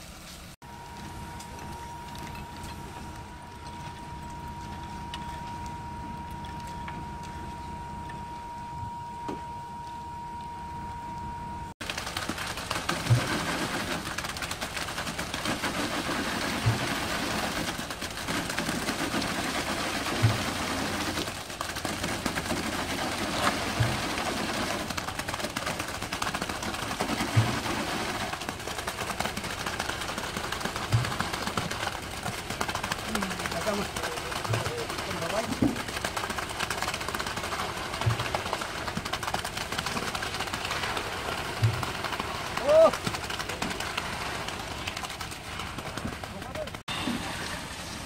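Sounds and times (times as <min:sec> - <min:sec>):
concrete pump running: 0:00.6 - 0:48.0.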